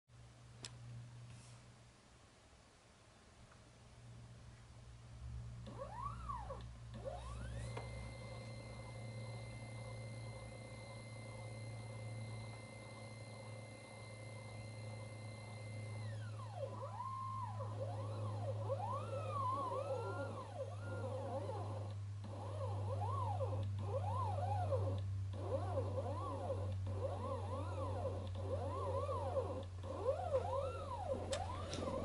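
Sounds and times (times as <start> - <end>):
steady low hum: 0.2 - 32.0
stepper motors whining: 5.7 - 32.0.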